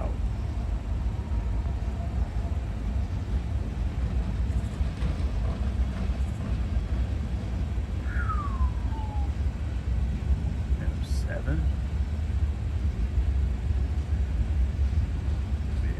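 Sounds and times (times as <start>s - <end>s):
diesel locomotive rumble: 0.0s - 15.9s.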